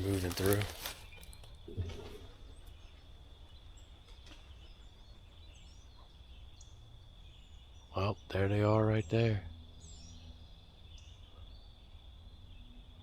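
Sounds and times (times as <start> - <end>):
distant small bird chirps: 0.0 - 13.0.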